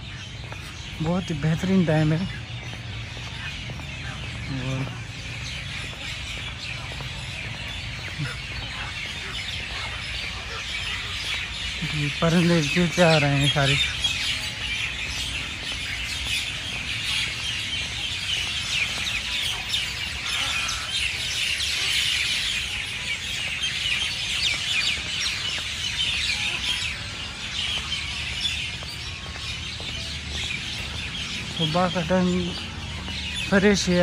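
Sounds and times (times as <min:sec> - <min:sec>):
many birds chirping: 0:00.0 - 0:34.0.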